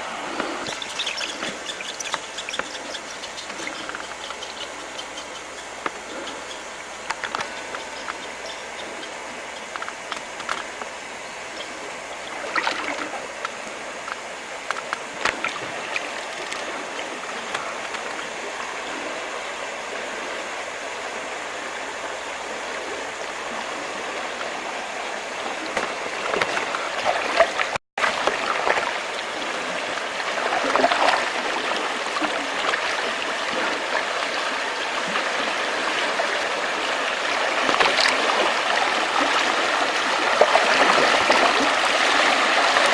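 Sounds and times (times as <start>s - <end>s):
water rushing steadily: 0.0s - 42.9s.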